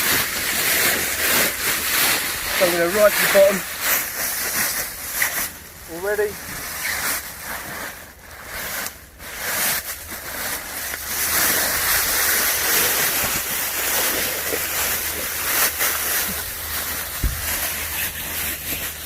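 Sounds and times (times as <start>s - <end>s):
plastic bag crinkling and rustling: 0.0s - 19.0s.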